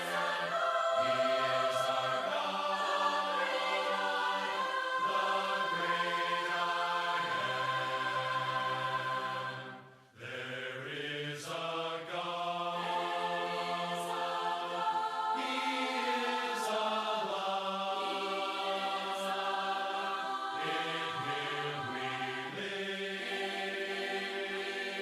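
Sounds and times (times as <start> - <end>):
congregation singing a cappella: 0.0 - 25.0.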